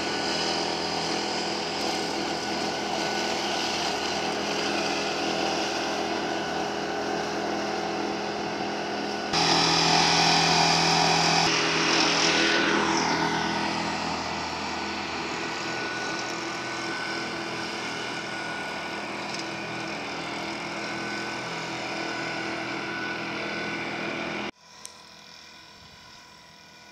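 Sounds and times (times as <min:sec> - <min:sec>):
flail hedgecutter running: 0:00.0 - 0:26.9
tractor diesel engine droning: 0:00.0 - 0:26.9.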